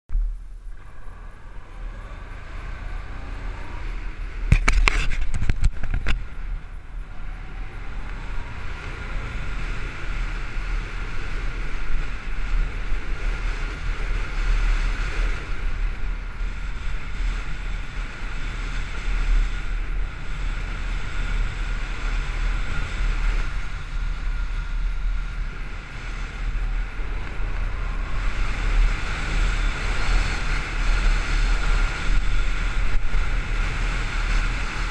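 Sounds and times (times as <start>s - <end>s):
motorcycle engine rumble: 0.1s - 34.9s
wind noise on microphone: 0.1s - 34.9s.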